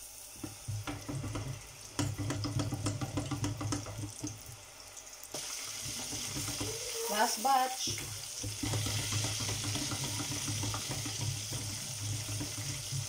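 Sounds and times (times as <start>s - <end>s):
oil bubbling and popping: 0.0s - 7.0s, 7.8s - 13.0s
bright steady sizzle: 0.0s - 13.0s.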